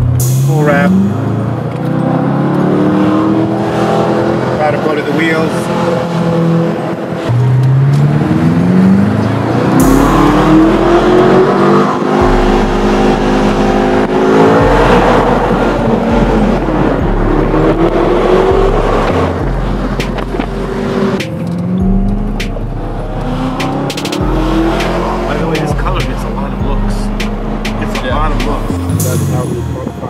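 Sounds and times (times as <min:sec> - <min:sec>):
music with heavy bass: 0:00.0 - 0:04.6, 0:05.5 - 0:30.0
car engine accelerating: 0:00.0 - 0:30.0.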